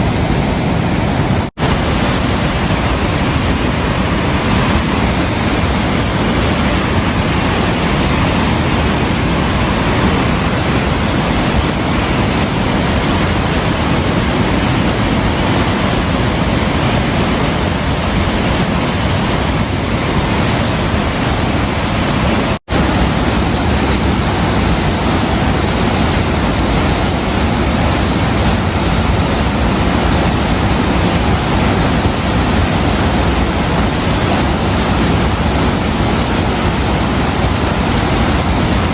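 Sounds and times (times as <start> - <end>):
loud rushing rain: 0.0 - 38.9.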